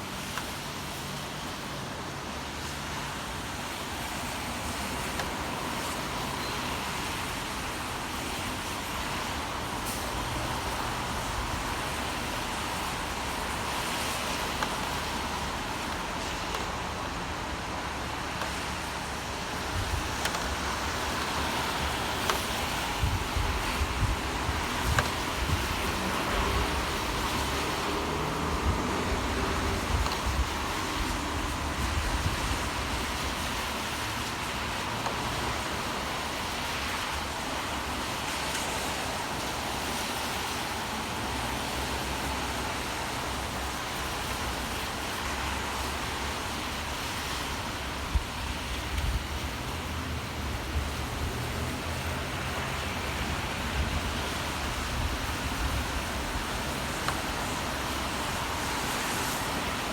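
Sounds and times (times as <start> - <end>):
rain hiss: 0.0 - 59.9
road traffic rumble: 0.0 - 59.9.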